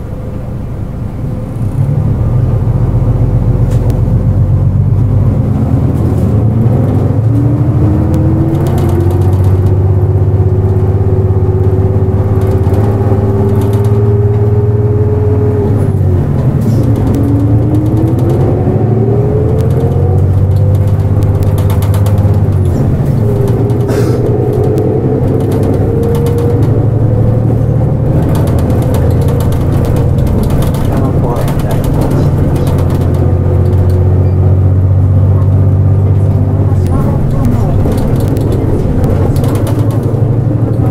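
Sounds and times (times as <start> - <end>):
bus diesel engine rumble: 0.0 - 40.9
bus whine rising in pitch: 0.0 - 40.9.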